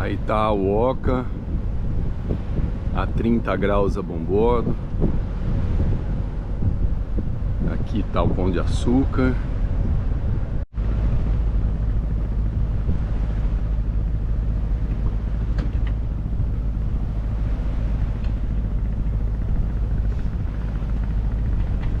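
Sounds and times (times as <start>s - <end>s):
sailboat wind and water rushing: 0.0s - 22.0s.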